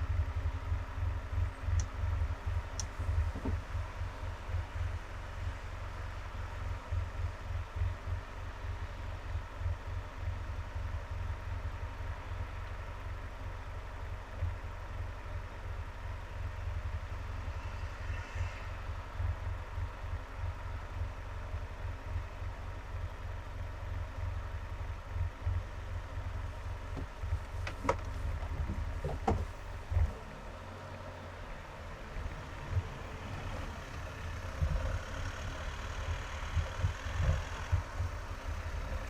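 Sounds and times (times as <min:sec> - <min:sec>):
car road and engine rumble: 0:00.0 - 0:39.0.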